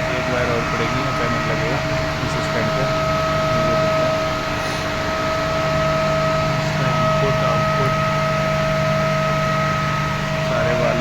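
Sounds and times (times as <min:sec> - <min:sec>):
high-pitched whine: 0:00.0 - 0:11.0
machinery hum: 0:00.0 - 0:11.0.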